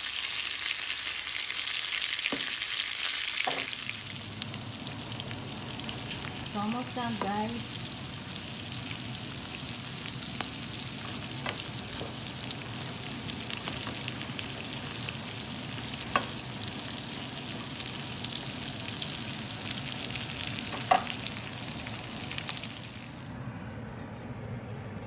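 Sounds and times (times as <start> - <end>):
shrimp sizzling in a skillet: 0.0 - 23.2.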